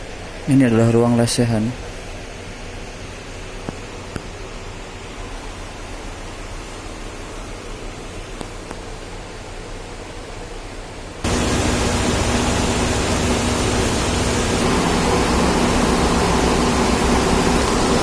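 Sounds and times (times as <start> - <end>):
ferry machinery and ventilation hum: 0.0 - 18.0.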